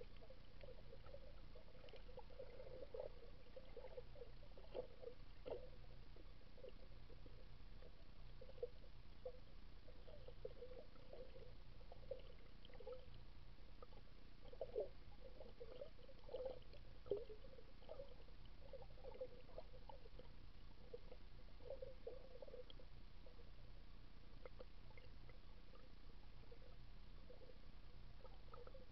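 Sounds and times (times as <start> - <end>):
low steady hum: 0.0 - 28.9
underwater gurgling: 0.0 - 28.9.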